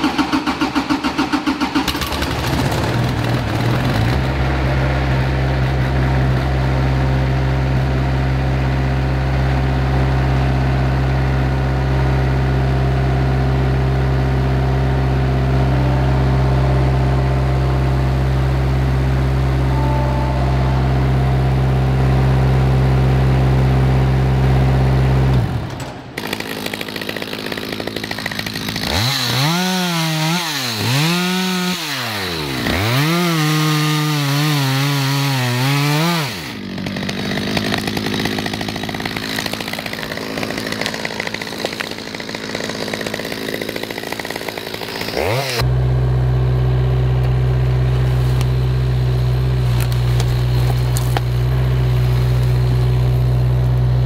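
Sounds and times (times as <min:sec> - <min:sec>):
diesel engine running: 0:00.0 - 0:29.4, 0:32.3 - 0:54.0
chainsaw revving and cutting: 0:00.0 - 0:54.0.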